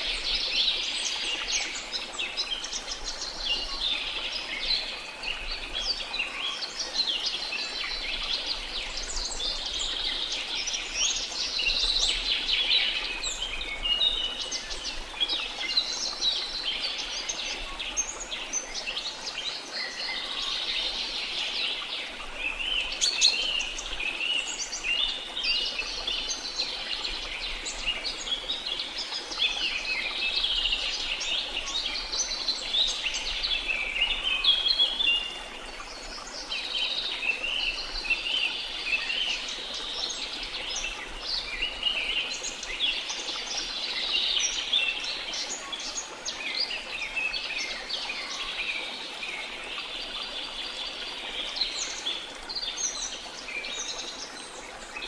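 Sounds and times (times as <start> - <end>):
faint rush of water: 0.0 - 55.0
many birds chirping and trilling: 0.0 - 55.0.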